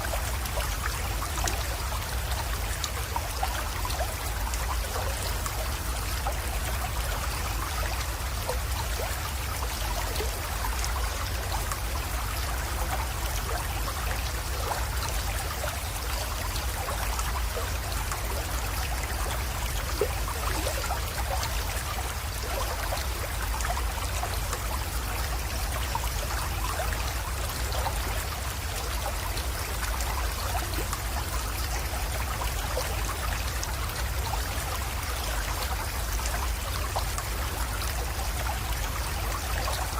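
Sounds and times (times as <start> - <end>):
creek water trickling into pond: 0.0 - 39.9.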